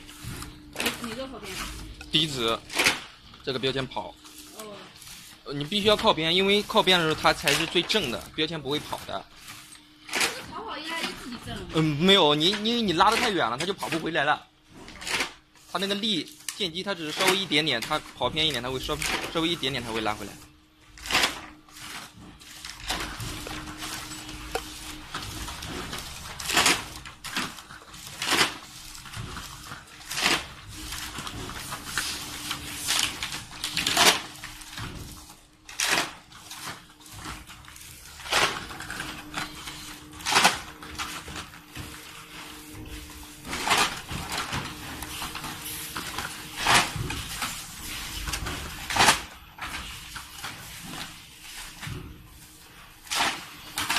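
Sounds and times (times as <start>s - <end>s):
labeling machine motor hum: 0.0s - 53.9s.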